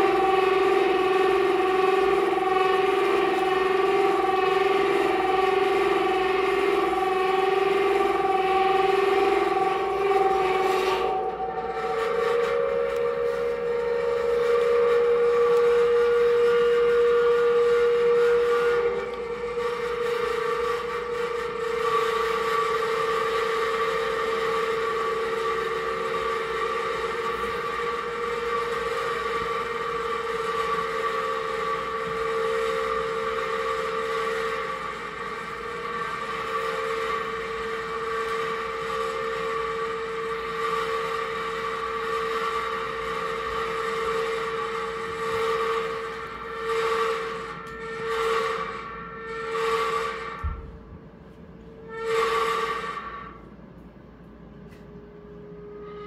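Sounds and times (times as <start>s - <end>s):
electronic drone with two tones: 0.0s - 50.8s.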